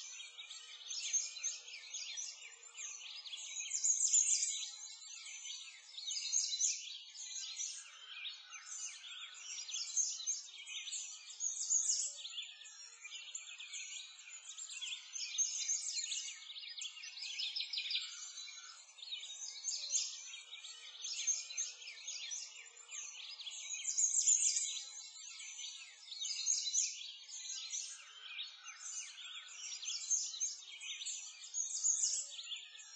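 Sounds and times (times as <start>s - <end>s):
birds chirping in chorus: 0.0s - 32.9s.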